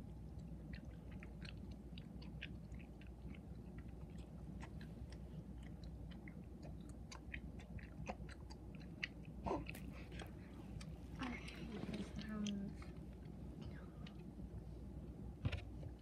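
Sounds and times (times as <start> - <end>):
wet chewing: 0.0 - 14.3.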